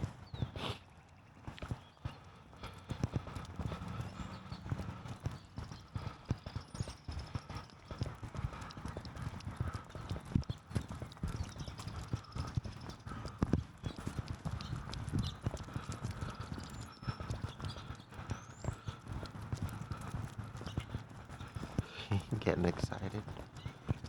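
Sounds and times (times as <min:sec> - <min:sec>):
footsteps on wet sidewalk: 0:00.0 - 0:24.0.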